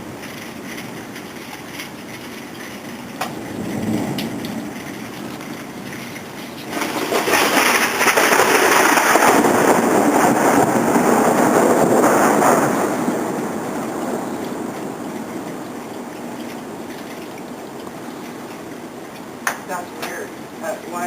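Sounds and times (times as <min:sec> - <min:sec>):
thunder rumble: 0:00.0 - 0:21.0.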